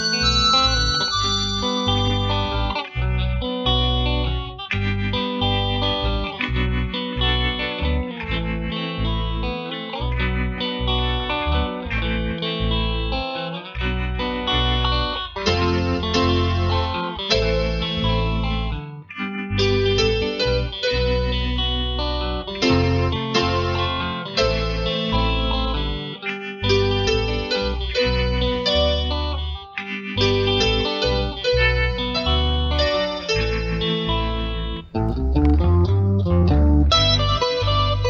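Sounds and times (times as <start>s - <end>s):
guitar music with bass beat: 0.0s - 38.0s.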